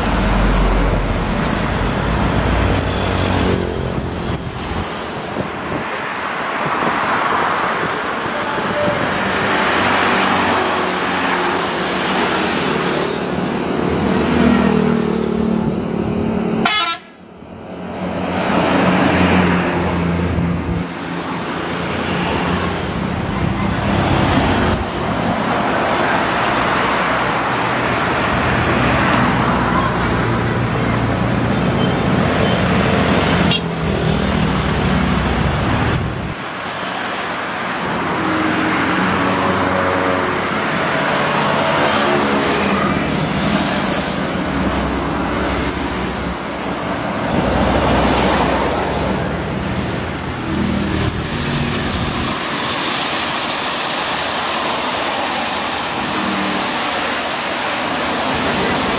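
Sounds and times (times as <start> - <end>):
traffic passing: 0.0 - 58.9.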